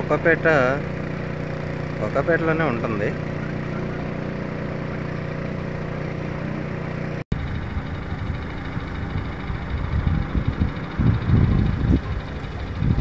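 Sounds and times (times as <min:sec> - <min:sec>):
road and wind noise: 0:00.0 - 0:13.0
vehicle engine humming: 0:00.0 - 0:13.0.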